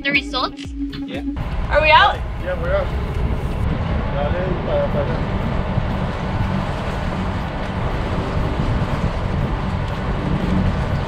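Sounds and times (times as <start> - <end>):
boat engine running: 0.0 - 11.0
wind rumble on microphone: 1.4 - 11.0.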